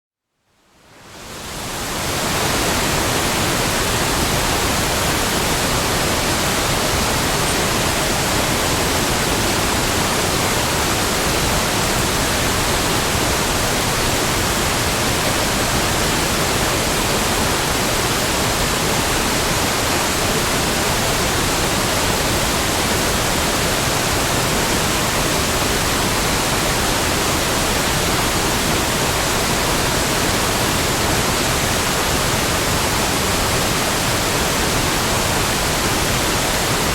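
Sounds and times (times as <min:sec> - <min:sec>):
waterfall rushing: 0:01.0 - 0:36.9.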